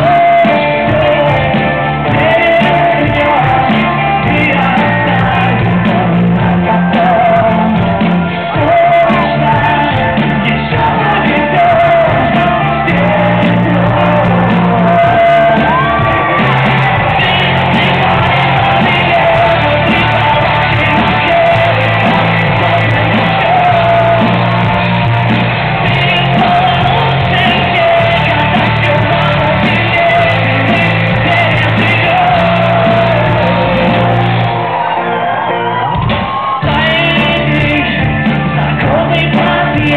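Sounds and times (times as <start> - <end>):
man singing and shouting: 0.0 - 34.5, 36.5 - 39.9
drums: 0.0 - 39.9
electric guitar: 0.0 - 39.9.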